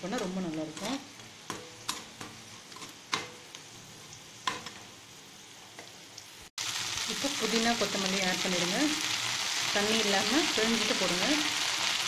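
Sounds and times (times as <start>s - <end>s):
garlic and chillies sizzling in oil: 0.0s - 12.0s.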